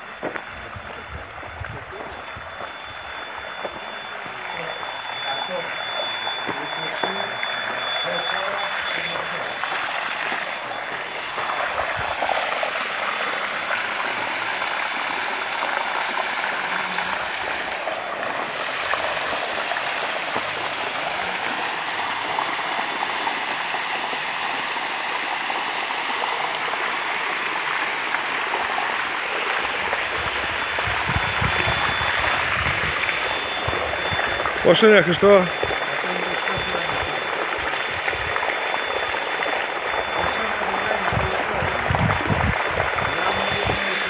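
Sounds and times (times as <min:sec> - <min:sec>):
water gushing and splashing: 0:00.0 - 0:44.0.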